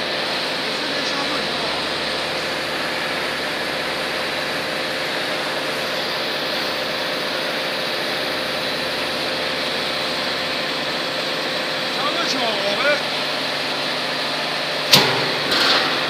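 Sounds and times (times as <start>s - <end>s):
factory machinery whirring: 0.0s - 16.0s.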